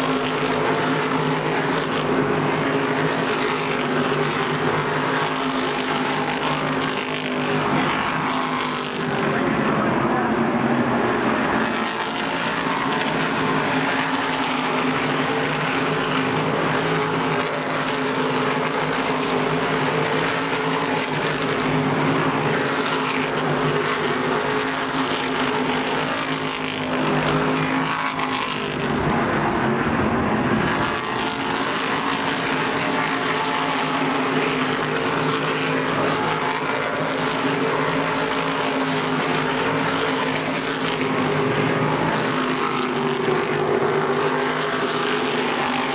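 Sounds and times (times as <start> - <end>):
race car engines: 0.0 - 45.9.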